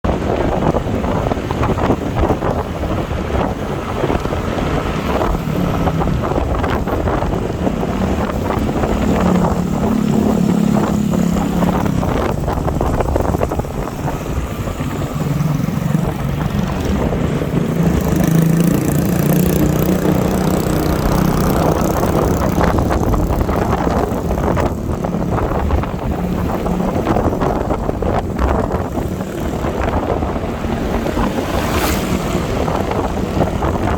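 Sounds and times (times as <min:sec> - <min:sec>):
motorbike engine hum: 0:00.0 - 0:33.9
wind buffeting microphone: 0:00.0 - 0:33.9.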